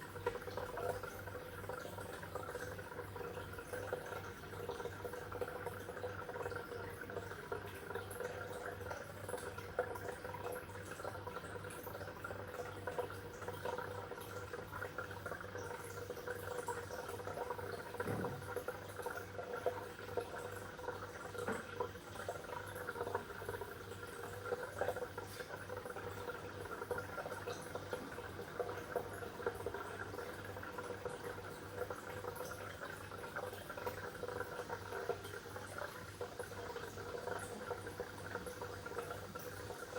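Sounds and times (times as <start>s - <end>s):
water bubbling and trickling: 0.0s - 39.9s.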